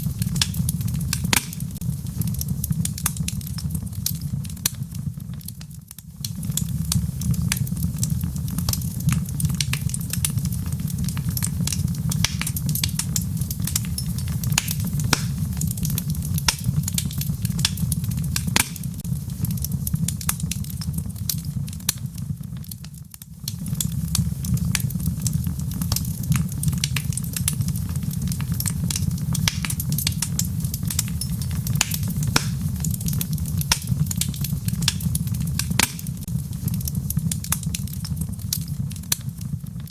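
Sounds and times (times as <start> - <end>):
fire low rumble: 0.0 - 39.9
wood fire crackling and popping: 0.0 - 39.9.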